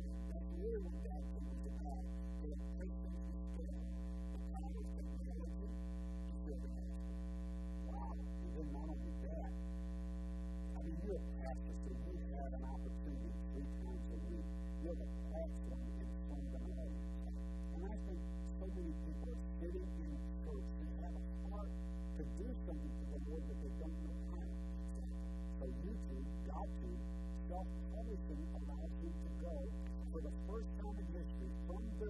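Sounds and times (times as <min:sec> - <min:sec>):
man talking faintly: 0:00.0 - 0:07.1, 0:07.8 - 0:09.6, 0:10.7 - 0:32.0
electrical mains hum: 0:00.0 - 0:32.0.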